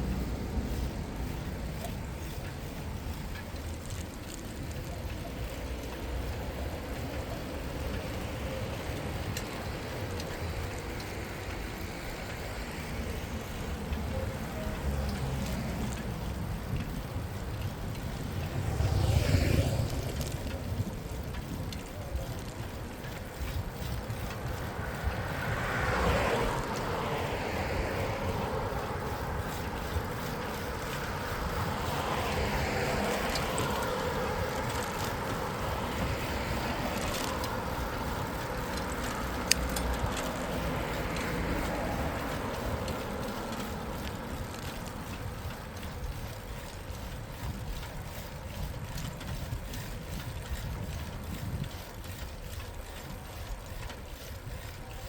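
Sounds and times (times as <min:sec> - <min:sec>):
street traffic passing: 0:00.0 - 0:55.0
wind rumbling on microphone: 0:00.0 - 0:55.0.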